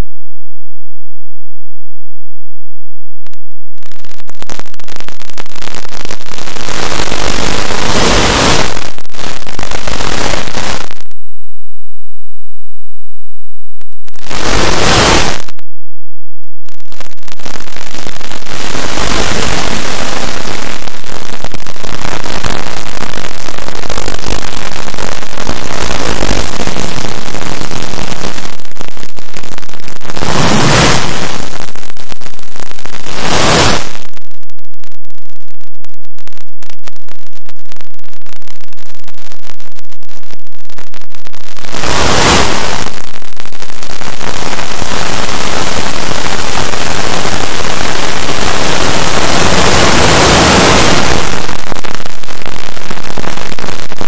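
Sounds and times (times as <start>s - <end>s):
harsh distorted static noise: 3.2s - 11.2s, 13.8s - 15.7s, 16.4s - 54.0s.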